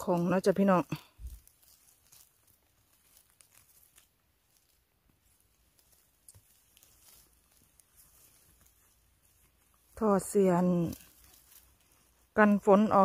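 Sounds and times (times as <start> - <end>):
faint rustles: 0.0 - 13.0.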